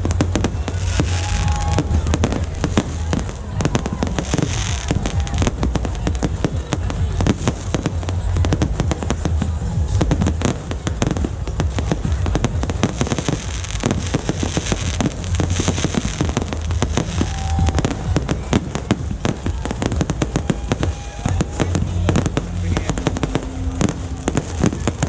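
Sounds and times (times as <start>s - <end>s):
fireworks bangs and crackles: 0.0s - 25.0s
low rumble: 0.0s - 25.0s.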